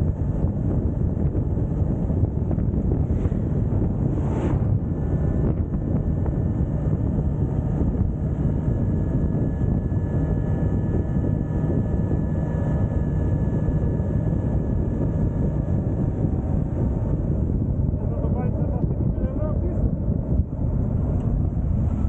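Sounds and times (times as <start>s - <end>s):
motorcycle engine and road rumble: 0.0s - 22.0s
wind buffeting microphone: 0.0s - 22.0s.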